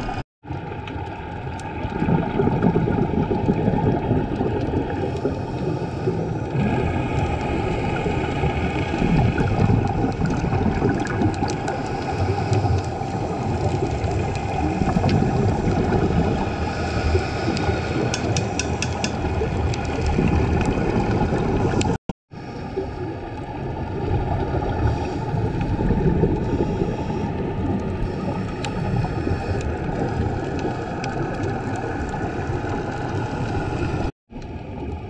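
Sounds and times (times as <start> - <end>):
muffled underwater rumble: 0.0 - 35.0.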